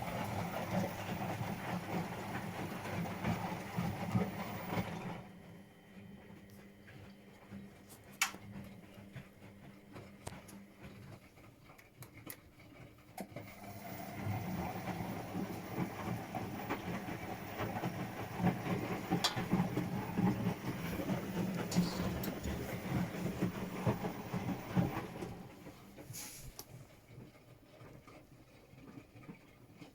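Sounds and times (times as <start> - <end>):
washing machine motor hum: 0.0 - 29.9.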